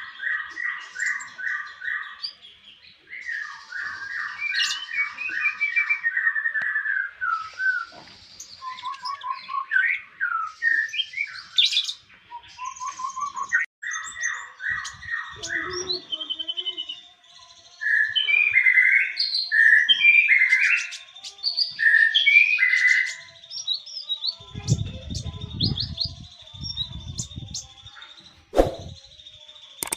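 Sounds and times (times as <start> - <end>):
songbird singing: 0.0 - 29.9.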